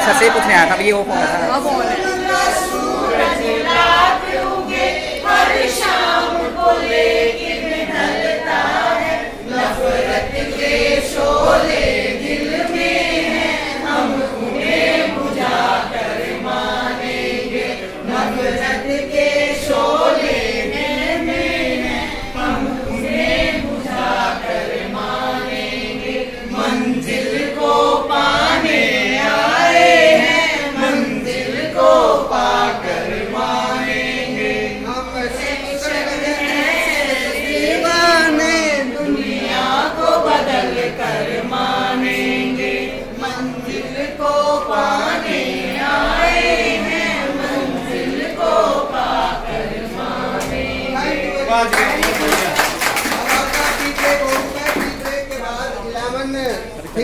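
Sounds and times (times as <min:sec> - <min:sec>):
group singing without instruments: 0:00.0 - 0:56.8.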